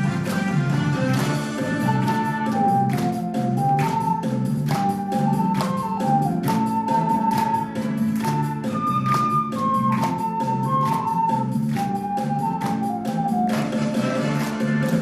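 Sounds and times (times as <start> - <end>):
backing track with bass and drums: 0.0 - 15.0
ocarina melody: 0.3 - 15.0.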